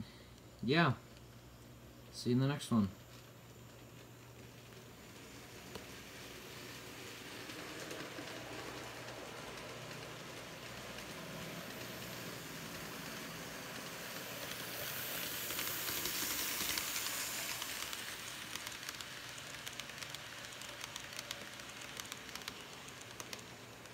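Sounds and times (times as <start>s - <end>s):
model train motor whirring: 3.7s - 23.9s
wheels clicking on track: 3.7s - 23.9s.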